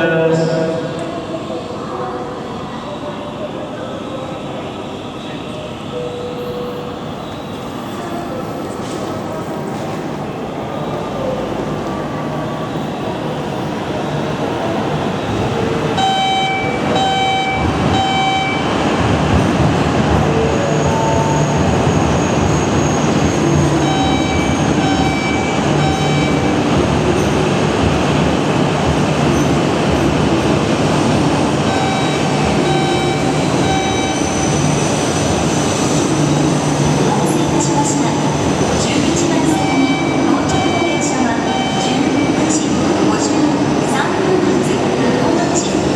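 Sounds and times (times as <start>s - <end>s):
train rushing rumble: 6.5s - 45.9s.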